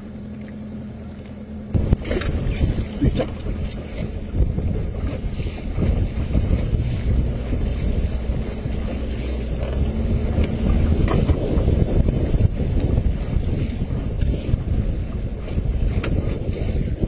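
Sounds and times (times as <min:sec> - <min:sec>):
water sloshing against boat hull: 0:00.0 - 0:17.0
wind buffeting microphone: 0:01.7 - 0:17.0.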